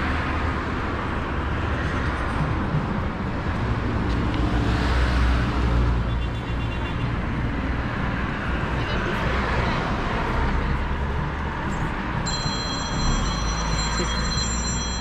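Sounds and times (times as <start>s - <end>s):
road traffic rumble and tyre hiss: 0.0s - 15.0s.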